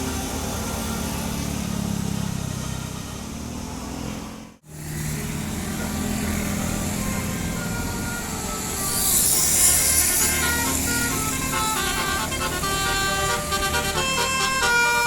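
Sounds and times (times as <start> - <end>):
road traffic engines: 0.0 - 15.0.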